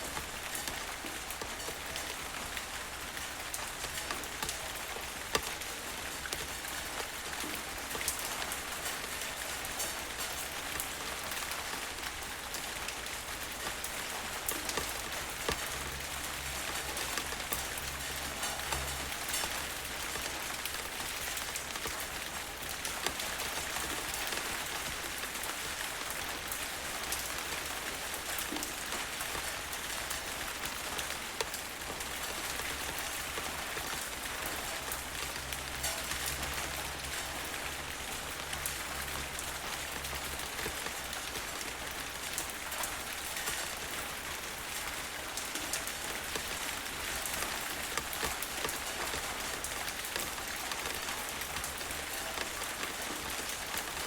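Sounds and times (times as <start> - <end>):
rain falling: 0.0 - 54.0
raindrops ticking on surface: 0.0 - 54.0.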